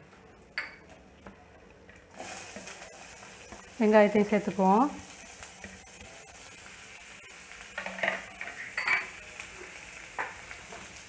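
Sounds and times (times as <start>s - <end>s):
onions sizzling in hot oil: 2.1s - 11.0s.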